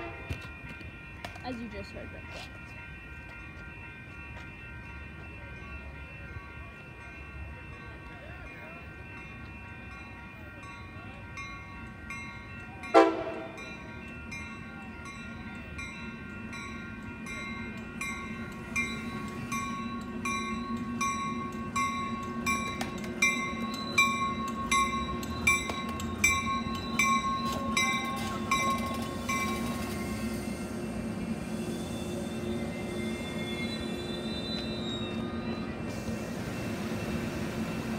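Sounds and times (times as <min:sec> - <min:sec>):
train rumbling: 0:00.0 - 0:37.9
warning bell ringing: 0:00.0 - 0:37.9.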